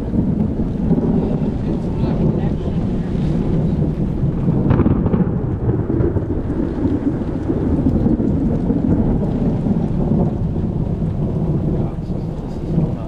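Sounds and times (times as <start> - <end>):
rain falling: 0.0 - 13.0
thunder rumbling: 0.0 - 13.0.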